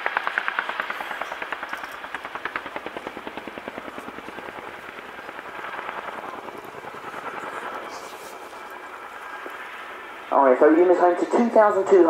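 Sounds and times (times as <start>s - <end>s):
helicopter rotor blades slapping: 0.0s - 12.0s.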